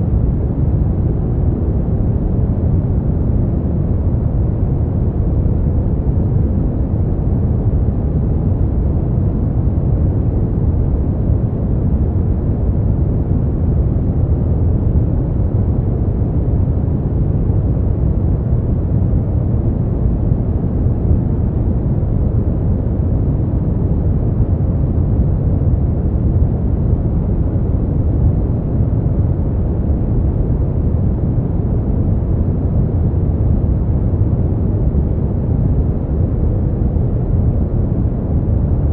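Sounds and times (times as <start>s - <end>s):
brown noise rumbling hiss: 0.0s - 38.9s.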